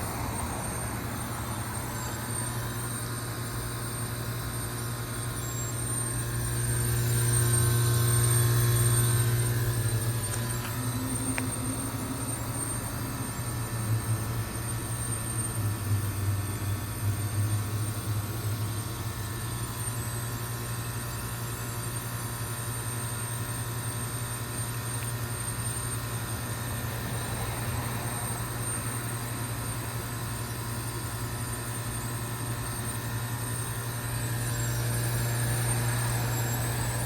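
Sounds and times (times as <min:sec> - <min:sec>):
heat pump humming: 0:00.0 - 0:37.0.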